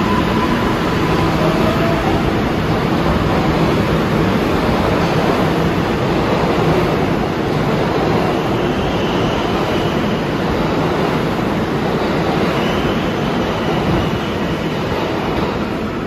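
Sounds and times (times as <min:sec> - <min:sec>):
subway train wheel and track noise: 0:00.0 - 0:16.0.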